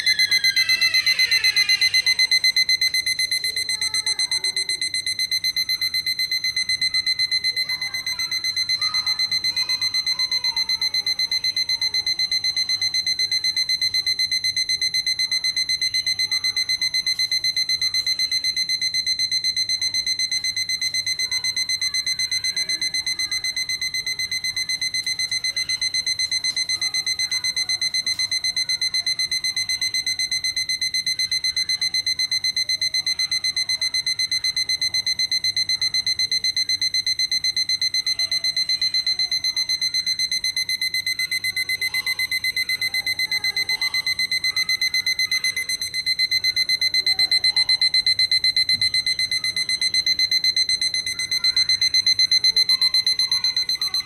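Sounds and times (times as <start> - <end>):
clock alarm rapid beeping: 0.0 - 54.0.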